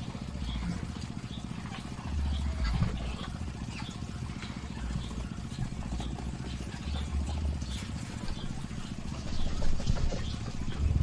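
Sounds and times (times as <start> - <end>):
low motor rumble: 0.0 - 11.0.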